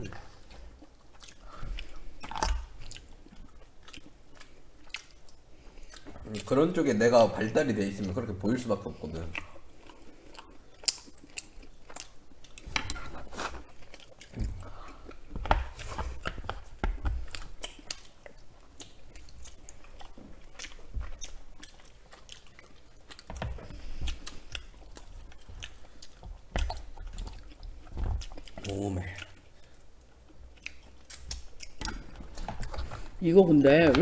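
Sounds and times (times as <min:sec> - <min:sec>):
close chewing and mouth sounds: 0:00.0 - 0:34.0.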